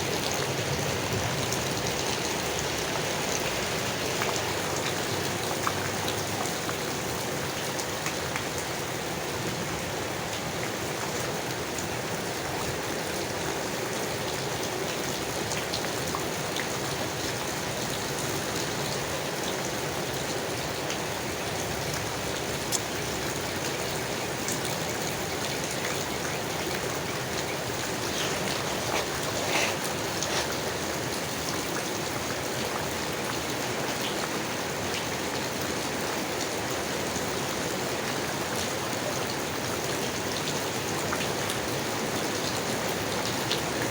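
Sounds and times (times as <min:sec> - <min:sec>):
rain falling on leaves: 0:00.0 - 0:43.9.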